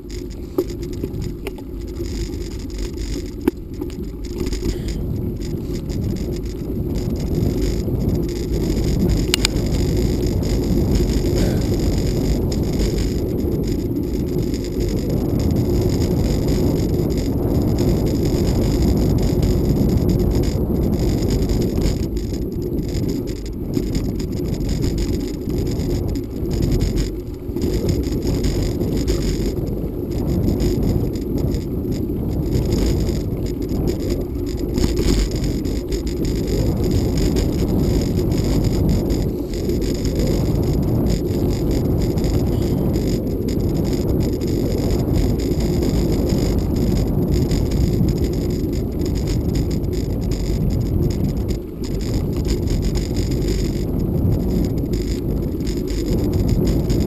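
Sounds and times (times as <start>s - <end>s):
bicycle tyre rumble: 0.0s - 57.0s
wind on microphone: 0.0s - 57.0s.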